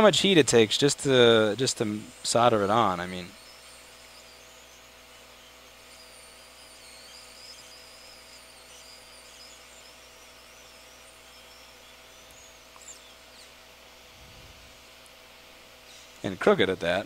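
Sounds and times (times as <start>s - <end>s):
faint electrical hum: 0.0s - 17.0s
high-pitched whine: 0.0s - 17.0s.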